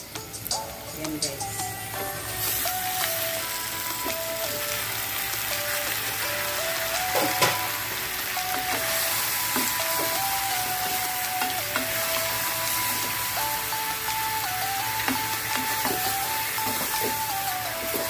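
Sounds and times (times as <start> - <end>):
background music: 0.0 - 18.0
squid sizzling in hot oil: 1.7 - 18.0.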